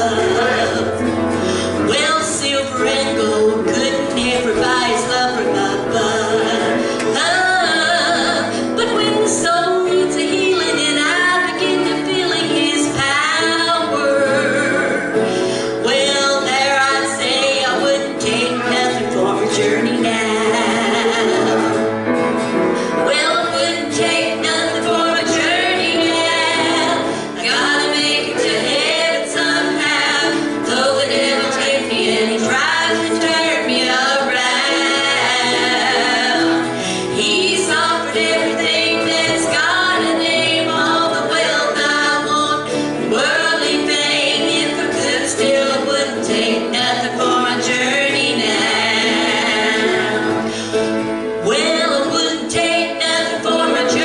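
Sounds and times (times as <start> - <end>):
women singing gospel: 0.0 - 21.9, 23.0 - 54.0
guitar accompaniment: 0.0 - 54.0.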